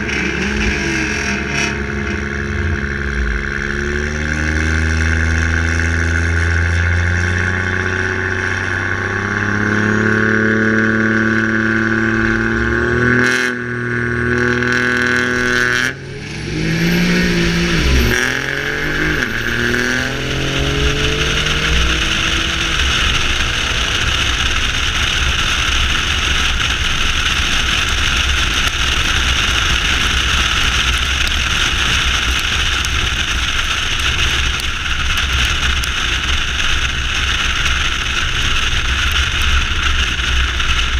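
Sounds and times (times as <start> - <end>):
car engine accelerating: 0.0 - 40.9
wind and road noise: 0.0 - 40.9.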